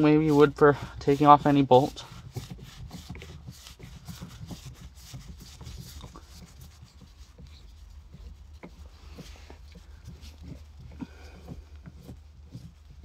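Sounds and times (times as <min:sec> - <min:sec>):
shift knob rubbing and clicking: 0:00.0 - 0:13.0.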